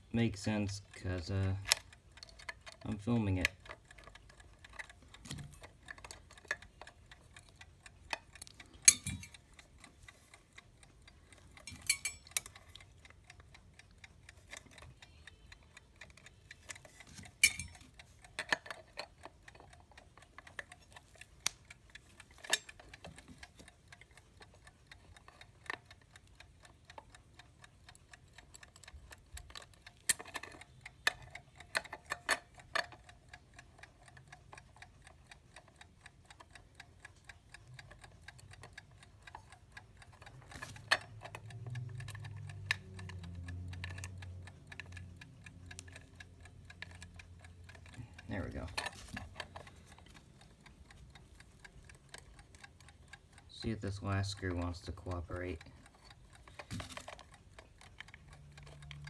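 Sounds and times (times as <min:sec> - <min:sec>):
alarm clock ticking fast: 0:00.0 - 0:59.0.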